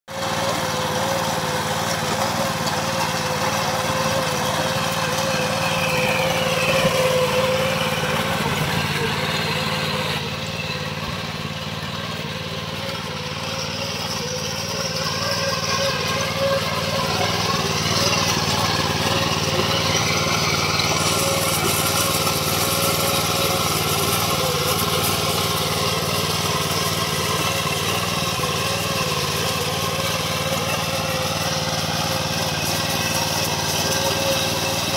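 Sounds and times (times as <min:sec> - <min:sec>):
tiller engine running under load: 0:00.1 - 0:34.9
tines digging through soil: 0:00.1 - 0:34.9.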